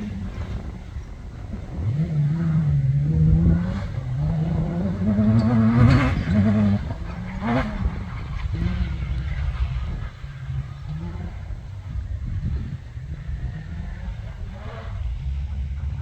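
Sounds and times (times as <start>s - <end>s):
racing engine revving hard: 0.0s - 16.0s.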